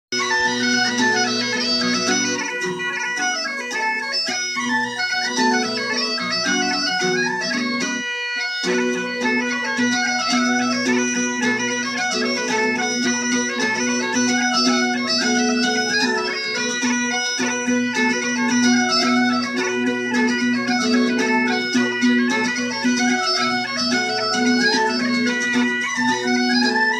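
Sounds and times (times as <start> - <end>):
bagpipe music: 0.1 - 26.9.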